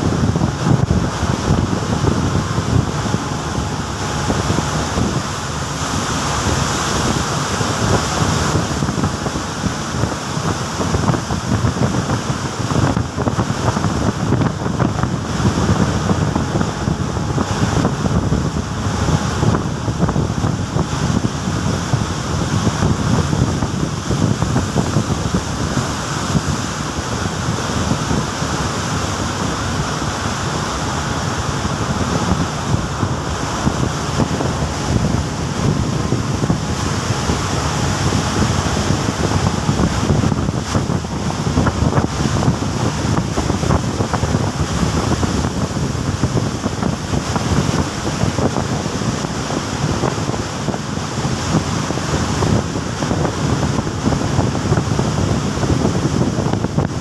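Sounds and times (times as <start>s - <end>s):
sea waves rushing and surging: 0.0s - 57.0s
wind blowing across microphone: 0.0s - 57.0s.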